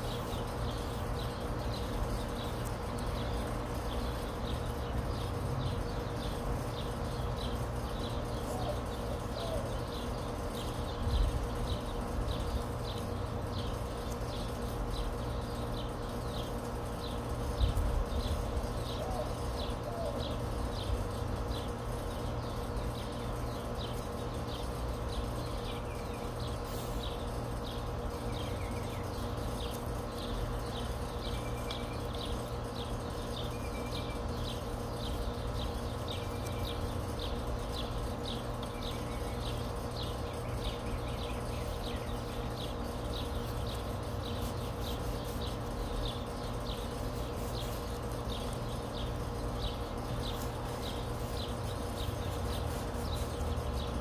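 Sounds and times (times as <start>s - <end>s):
constant low hum: 0.0s - 54.0s.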